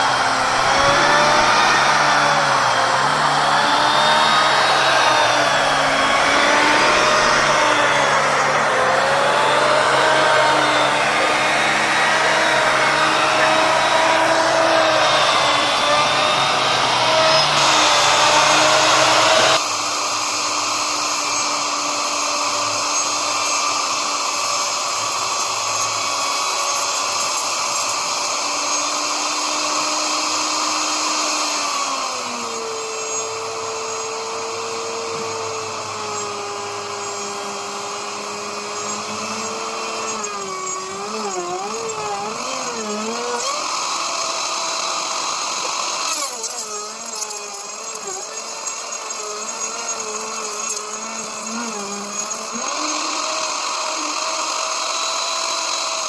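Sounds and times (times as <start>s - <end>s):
power tool motor whine: 0.0s - 56.0s.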